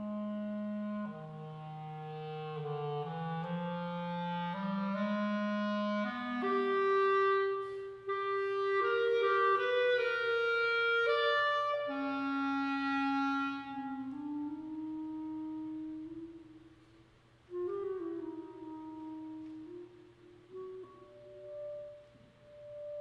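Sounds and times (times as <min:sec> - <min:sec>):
clarinet playing slow melody: 0:00.0 - 0:23.0.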